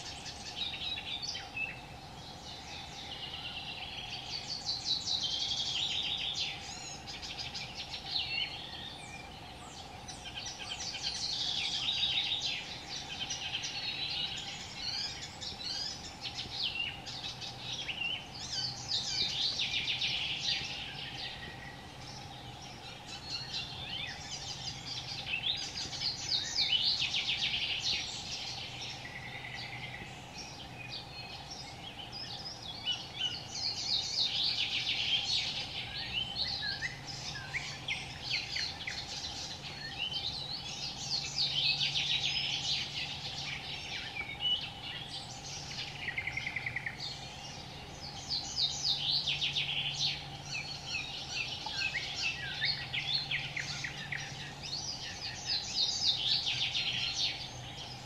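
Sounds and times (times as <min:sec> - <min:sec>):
faint steady hum: 0:00.0 - 0:58.0
songbirds singing: 0:00.0 - 0:58.0.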